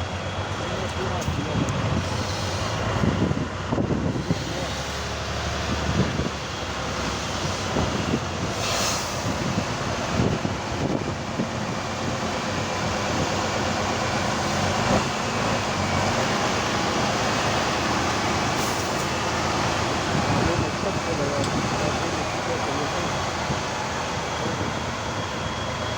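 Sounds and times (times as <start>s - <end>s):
truck engine running: 0.0s - 25.9s.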